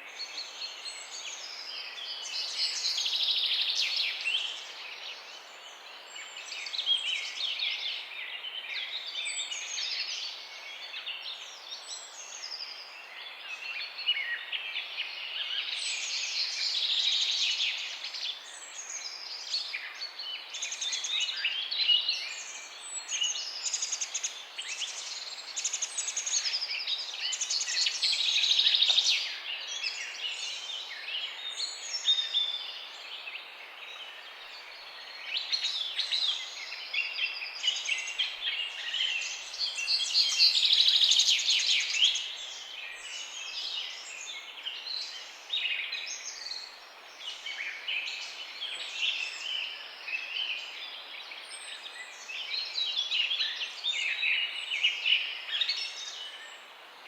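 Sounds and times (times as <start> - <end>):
faint outdoor hiss: 0.0 - 57.0.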